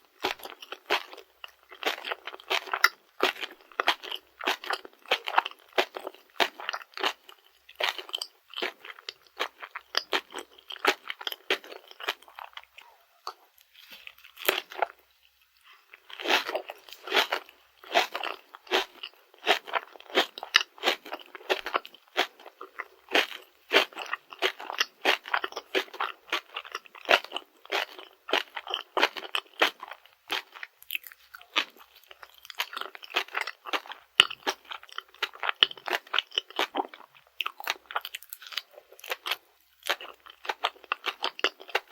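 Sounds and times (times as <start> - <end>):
close chewing with crunching: 0.0 - 41.9.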